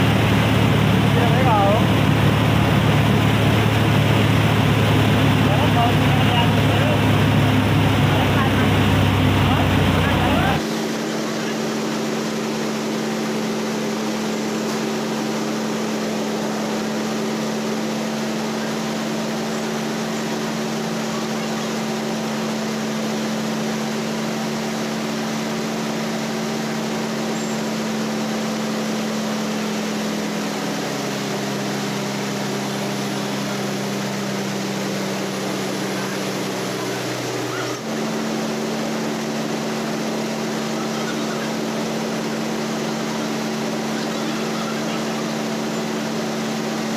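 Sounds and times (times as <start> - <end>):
rice mill machine hum: 0.0 - 46.9.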